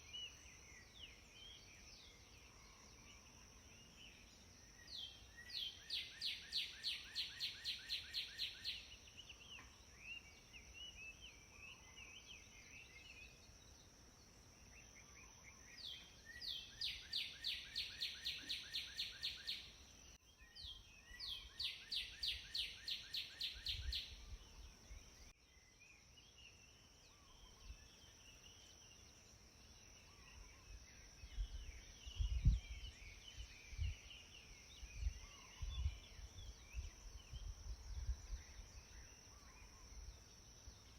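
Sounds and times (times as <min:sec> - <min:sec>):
soft bird chirps: 0:00.0 - 0:40.9.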